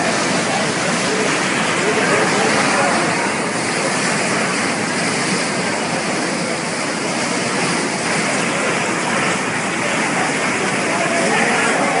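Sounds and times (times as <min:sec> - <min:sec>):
canal water rushing: 0:00.0 - 0:12.0.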